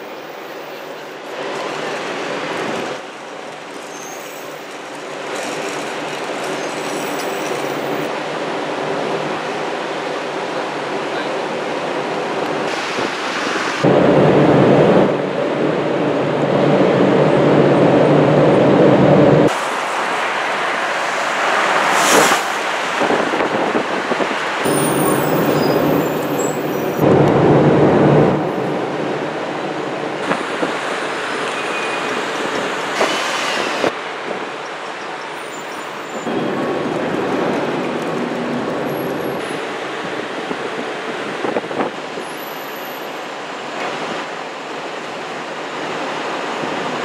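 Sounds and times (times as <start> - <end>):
bus engine hum: 0.0 - 47.0
passing vehicles: 0.0 - 47.0
road noise: 0.0 - 47.0.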